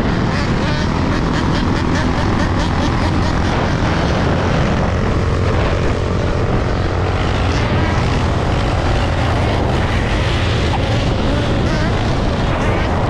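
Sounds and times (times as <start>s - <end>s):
road noise: 0.0s - 13.0s
wind rush on microphone: 0.0s - 13.0s.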